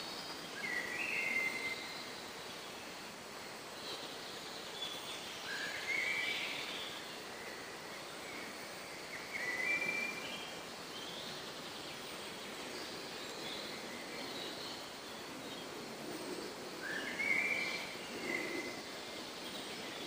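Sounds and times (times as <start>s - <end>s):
birds singing: 0.0s - 20.0s
steady background noise: 0.0s - 20.0s.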